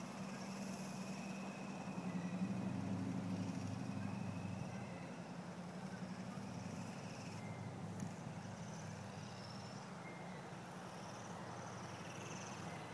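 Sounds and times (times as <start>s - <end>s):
model helicopter motor humming: 0.0s - 12.9s.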